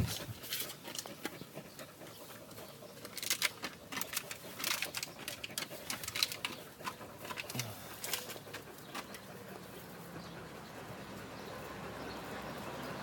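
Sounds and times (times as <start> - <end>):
dog sniffing: 0.0 - 12.5.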